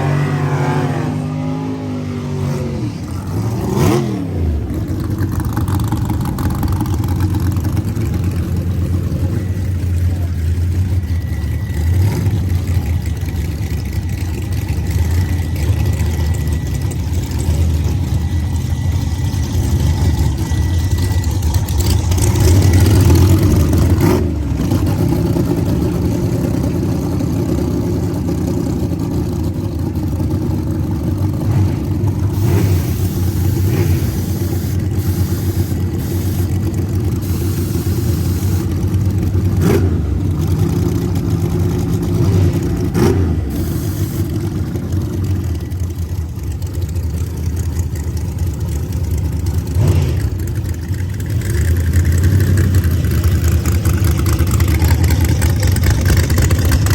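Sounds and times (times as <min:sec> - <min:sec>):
engine throttle blips: 0:00.0 - 0:56.9
drag car engine idling: 0:02.7 - 0:56.9.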